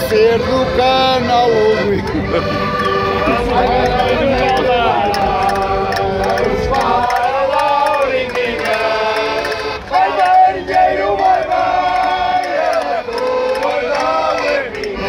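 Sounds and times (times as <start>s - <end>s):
button accordion chords: 0.0s - 15.0s
men singing together: 0.0s - 15.0s.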